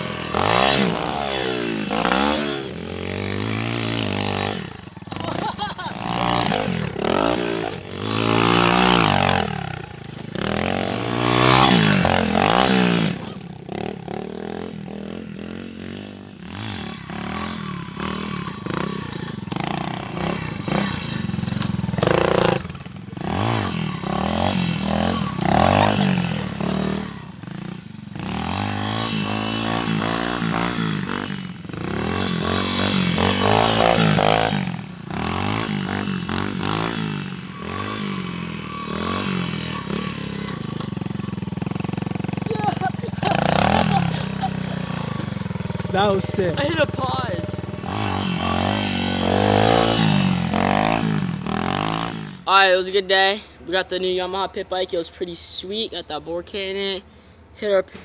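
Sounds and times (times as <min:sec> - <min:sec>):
pit bike engine revving: 0:00.0 - 0:53.4.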